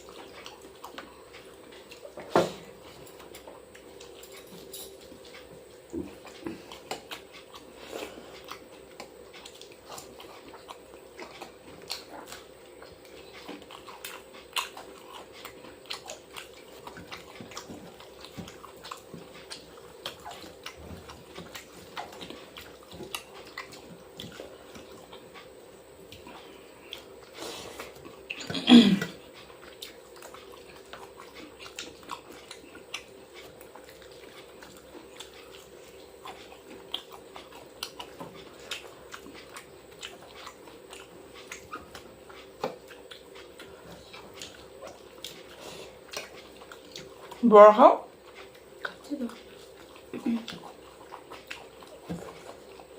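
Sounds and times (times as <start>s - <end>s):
chewing and mouth smacks: 0.0s - 47.4s, 48.1s - 52.9s.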